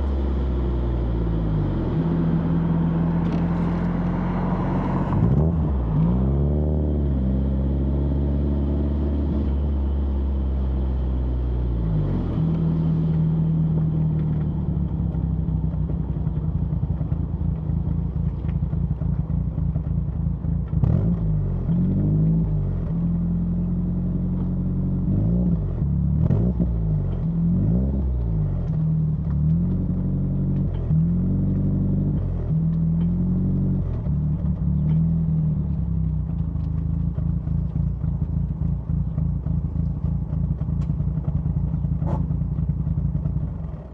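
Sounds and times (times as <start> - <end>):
car engine exhaust while driving: 0.0 - 43.9.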